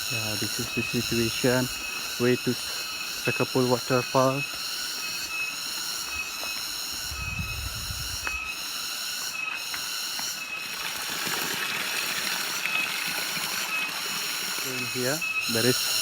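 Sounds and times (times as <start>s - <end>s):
high-pitched insect chorus: 0.0s - 16.0s
insect chirp: 0.0s - 16.0s.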